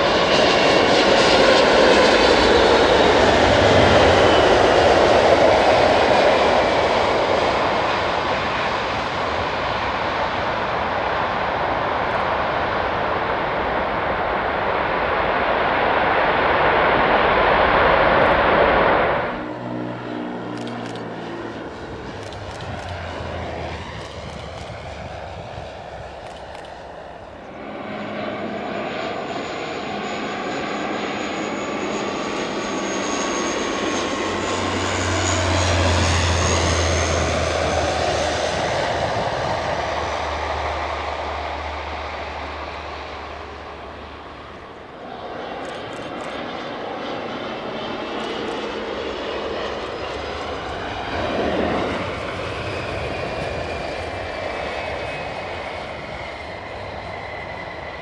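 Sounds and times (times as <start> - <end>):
jet engines whining: 0.0 - 58.0
turboprop propeller drone: 0.0 - 58.0.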